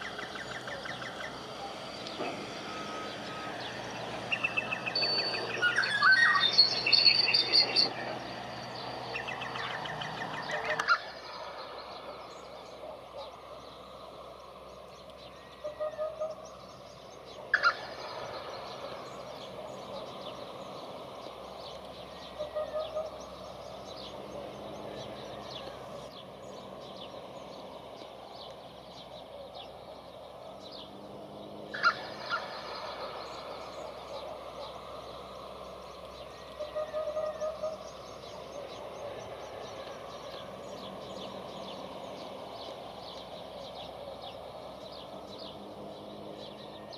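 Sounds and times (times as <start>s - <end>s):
wild birds calling: 0.0s - 46.9s.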